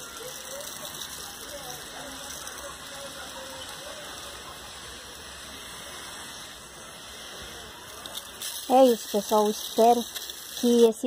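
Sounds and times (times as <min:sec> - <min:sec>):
hand sprayer hissing: 0:00.0 - 0:11.0.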